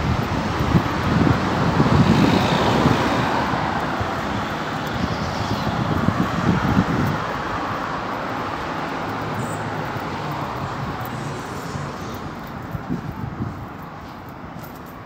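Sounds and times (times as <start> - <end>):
car passing: 0.0 - 14.7.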